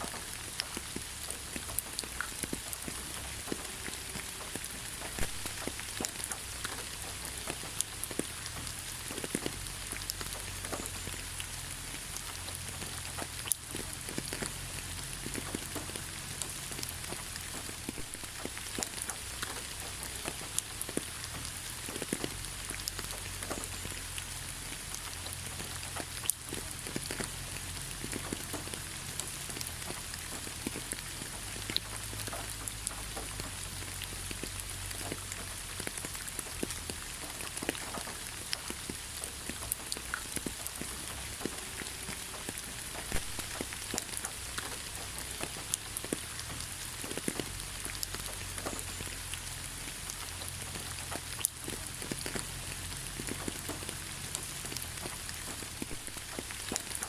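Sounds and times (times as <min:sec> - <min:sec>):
raindrops pattering on leaves: 0:00.0 - 0:57.0
steady rain hiss: 0:00.0 - 0:57.0.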